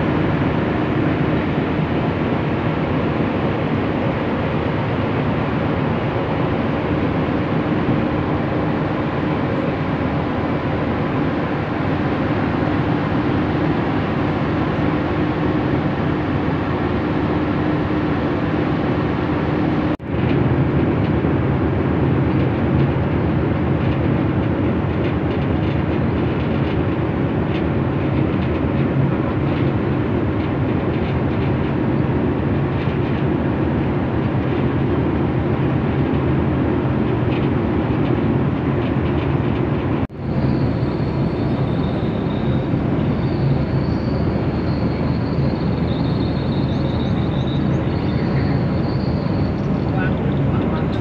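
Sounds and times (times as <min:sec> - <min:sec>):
diesel engine low drone: 0:00.0 - 0:51.0.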